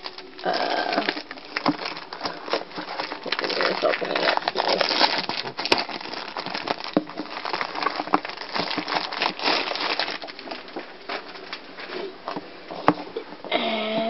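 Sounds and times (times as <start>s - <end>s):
packaging crinkling and rustling: 0.0s - 13.5s.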